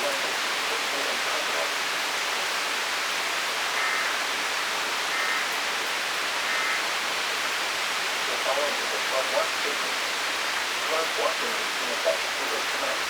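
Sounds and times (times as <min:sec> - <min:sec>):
torrential rain pouring: 0:00.0 - 0:13.0.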